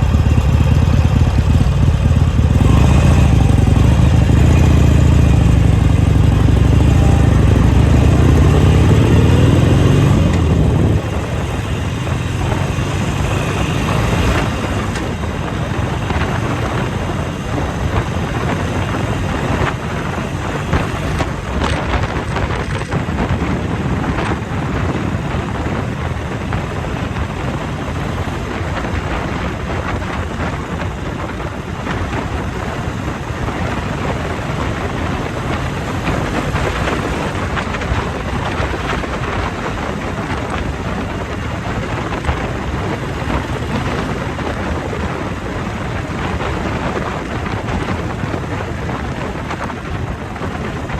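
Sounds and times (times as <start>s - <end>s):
motorcycle engine: 0.0s - 50.9s
road noise: 0.0s - 50.9s
wind buffeting microphone: 0.0s - 50.9s.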